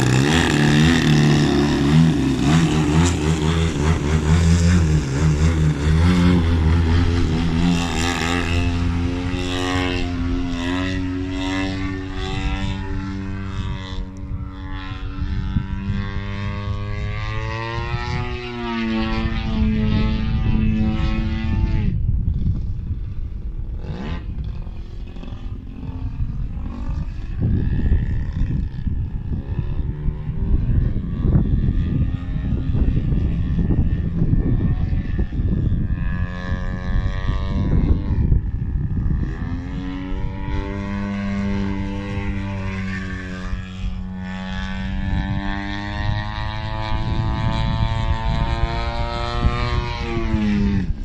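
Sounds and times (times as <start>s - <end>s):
model plane engine and propeller: 0.0s - 51.0s.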